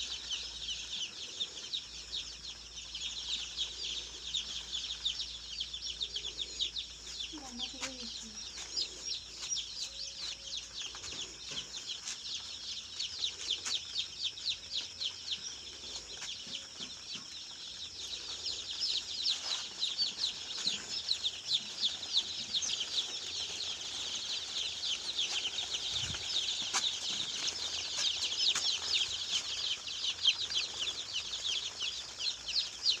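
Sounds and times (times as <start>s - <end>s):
chickens cheeping: 0.0s - 33.0s.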